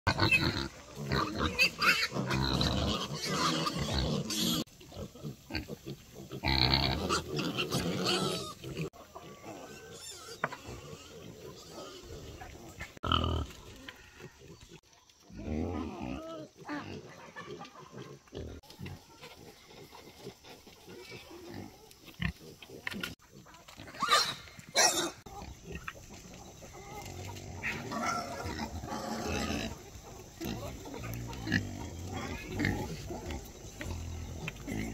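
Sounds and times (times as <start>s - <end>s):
pigs calling: 0.1s - 34.9s.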